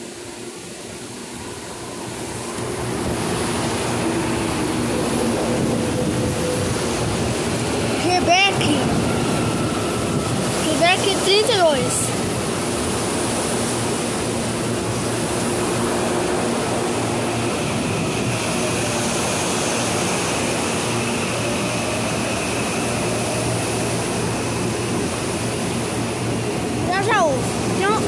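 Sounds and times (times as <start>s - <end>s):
electric train rumbling: 0.0s - 28.0s.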